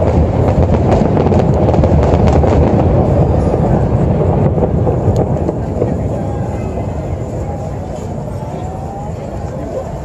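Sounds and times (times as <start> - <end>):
firework crackling: 0.0 - 10.0
firework shell bursts rumbling: 0.0 - 10.0.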